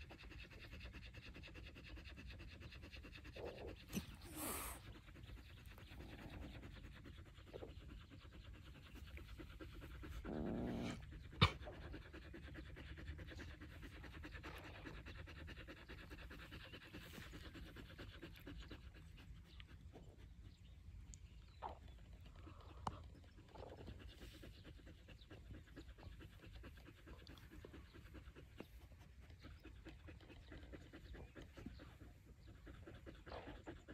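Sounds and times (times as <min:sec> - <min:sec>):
dog panting: 0:00.0 - 0:33.9.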